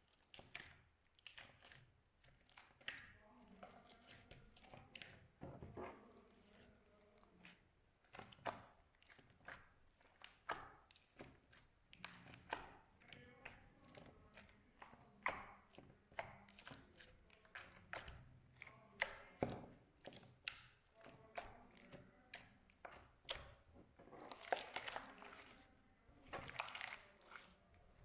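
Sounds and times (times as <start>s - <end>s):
slime squelching: 0.0s - 28.0s.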